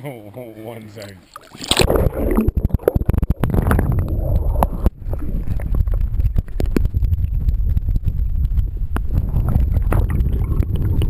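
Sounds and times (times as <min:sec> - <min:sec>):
underwater crackles and clicks: 0:01.2 - 0:11.0
underwater water rumble: 0:01.4 - 0:11.0.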